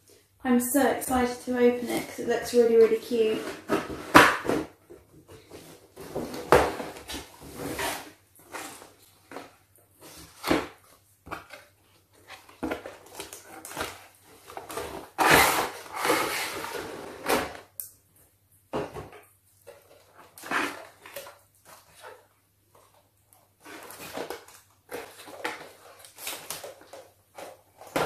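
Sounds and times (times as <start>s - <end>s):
cardboard scraping and rustling: 3.1s - 17.7s, 18.8s - 22.3s, 23.6s - 28.0s.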